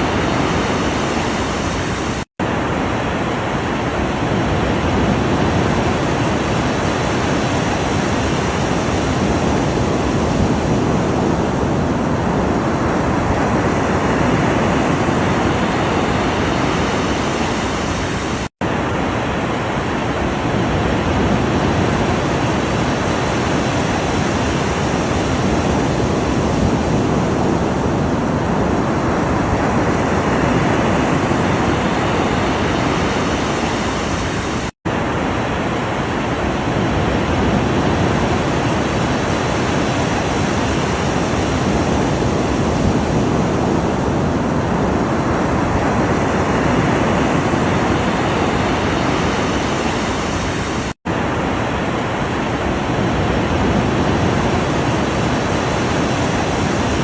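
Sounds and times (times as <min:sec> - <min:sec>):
ocean waves washing: 0:00.0 - 0:57.0.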